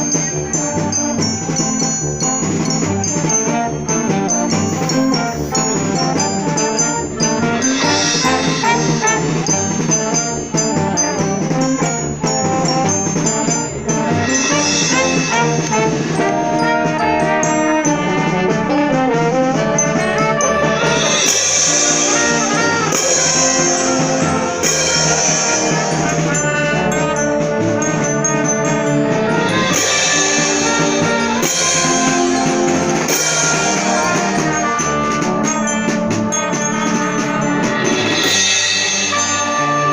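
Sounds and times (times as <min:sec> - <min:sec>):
brass section: 0:00.0 - 0:39.9
concert band playing: 0:00.0 - 0:39.9
percussion crashes: 0:00.0 - 0:39.9.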